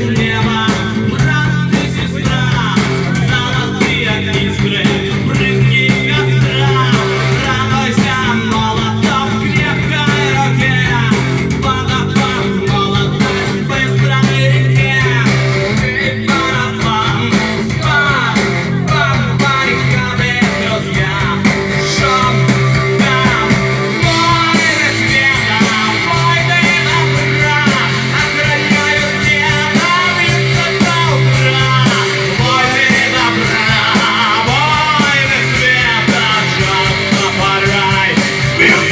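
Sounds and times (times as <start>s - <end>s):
loud rock band music: 0.0s - 38.9s.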